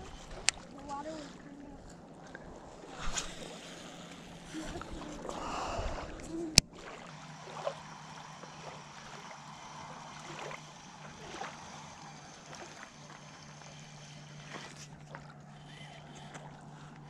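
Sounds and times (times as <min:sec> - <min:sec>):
water lapping at shoreline: 0:00.0 - 0:17.0.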